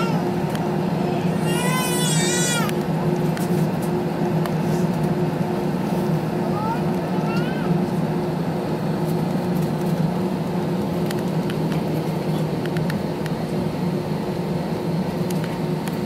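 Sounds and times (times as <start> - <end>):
jet cabin engine drone: 0.0 - 16.0.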